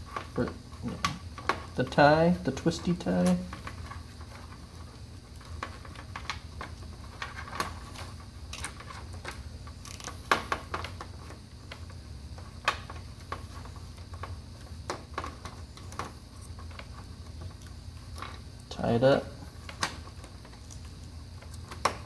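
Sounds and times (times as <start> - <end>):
cables clicking and rustling: 0.0 - 22.0
steady low hum: 0.0 - 22.0.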